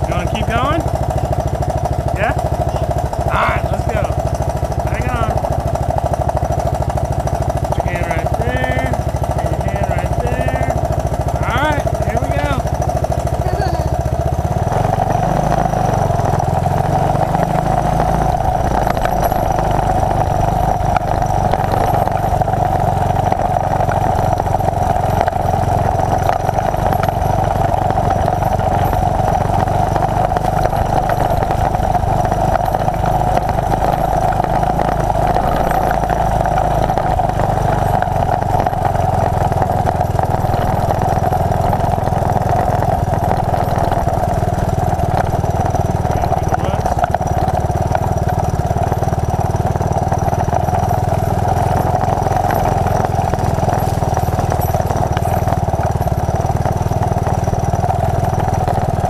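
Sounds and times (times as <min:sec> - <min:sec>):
motorcycle engine running steadily: 0:00.0 - 0:59.0.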